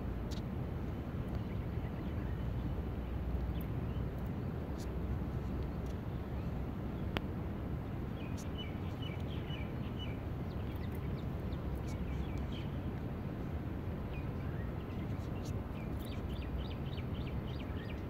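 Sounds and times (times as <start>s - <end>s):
small birds chirping: 1.3s - 7.2s, 8.1s - 18.0s.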